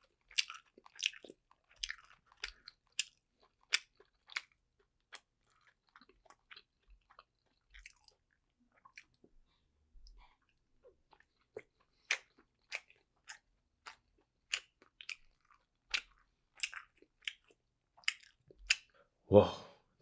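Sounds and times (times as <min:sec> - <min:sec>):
chewing with wet mouth clicks: 0:00.0 - 0:19.0.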